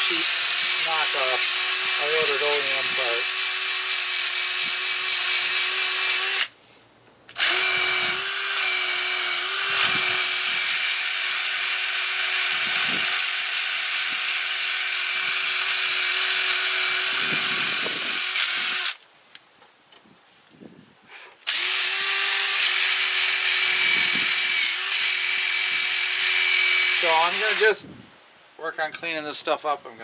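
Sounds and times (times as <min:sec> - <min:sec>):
drill motor whine: 0:00.0 - 0:06.5, 0:07.3 - 0:19.0, 0:21.5 - 0:27.7.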